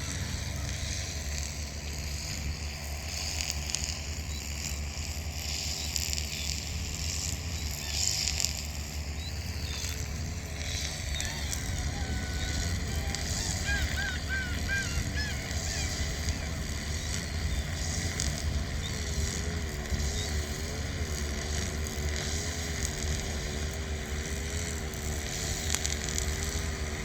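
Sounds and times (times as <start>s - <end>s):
gulls calling: 0.0s - 27.0s.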